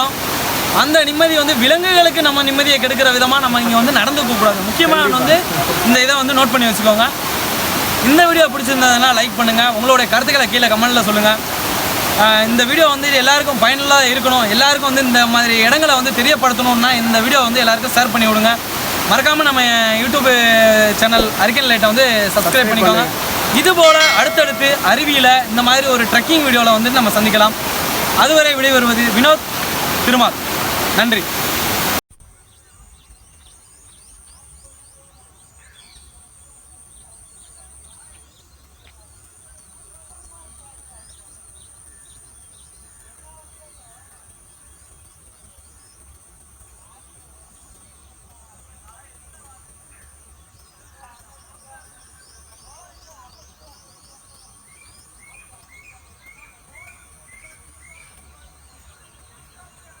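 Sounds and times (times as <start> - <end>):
small birds chirping: 0.2 - 60.0.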